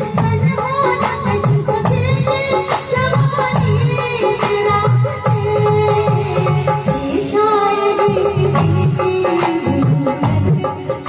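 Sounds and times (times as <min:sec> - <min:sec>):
steady drum beat with heavy bass: 0:00.0 - 0:11.0.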